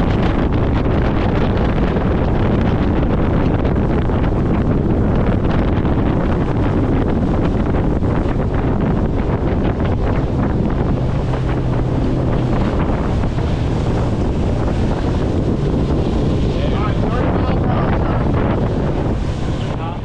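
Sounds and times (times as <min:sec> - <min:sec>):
water rushing past hull: 0:00.0 - 0:20.0
wind buffeting microphone: 0:00.0 - 0:20.0.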